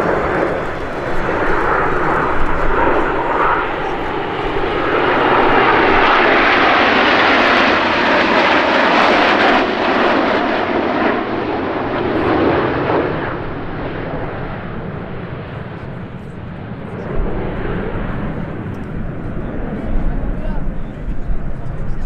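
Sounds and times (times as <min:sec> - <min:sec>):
airplane engine passing: 0:00.0 - 0:22.0.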